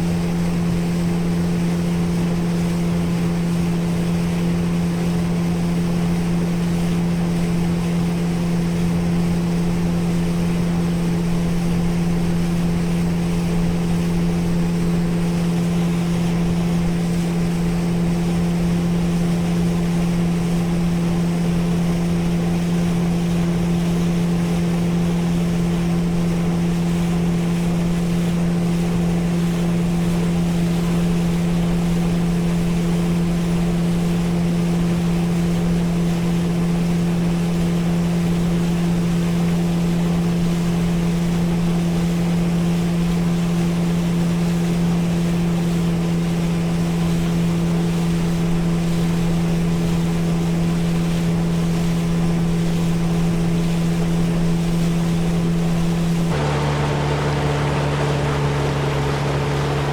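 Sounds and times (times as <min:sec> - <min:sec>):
motorboat engine hum: 0:00.0 - 0:59.9
water rushing past hull: 0:00.0 - 0:59.9.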